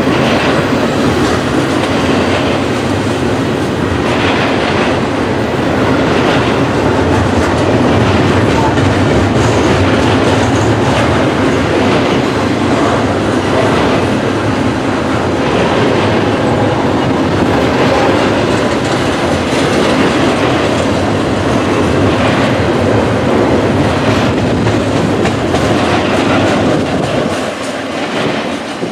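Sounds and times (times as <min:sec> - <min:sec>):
train wheels on rails: 0:00.0 - 0:28.9
wheels clacking over rail joints: 0:00.0 - 0:28.9.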